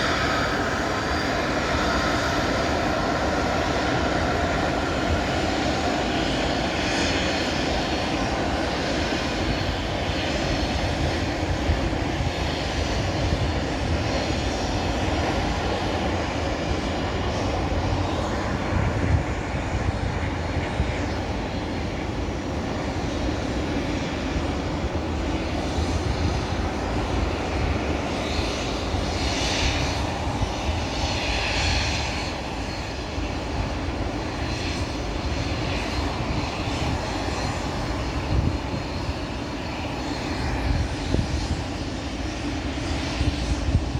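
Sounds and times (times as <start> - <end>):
jet engines rumbling: 0.0 - 43.9.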